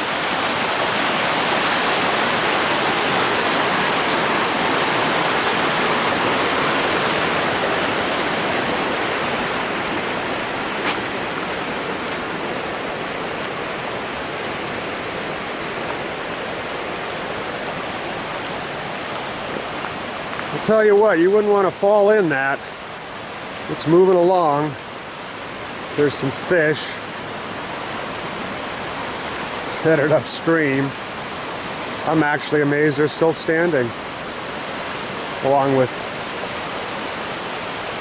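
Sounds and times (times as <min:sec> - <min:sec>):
fast water rushing: 0:00.0 - 0:38.0.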